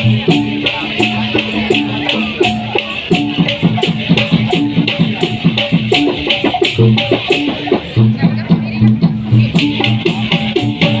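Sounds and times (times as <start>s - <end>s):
hand drums beating: 0.0s - 11.0s
maracas shaking: 0.0s - 11.0s.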